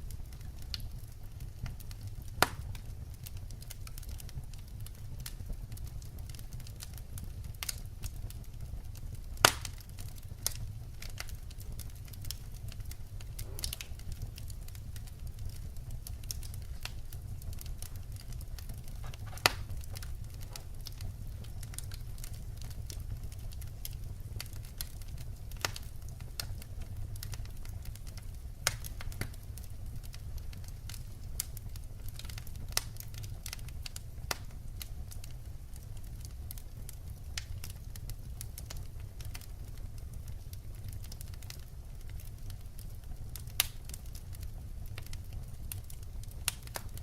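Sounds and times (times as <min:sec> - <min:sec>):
burning logs crackling and popping: 0:00.0 - 0:47.0
wood fire burning: 0:00.0 - 0:47.0.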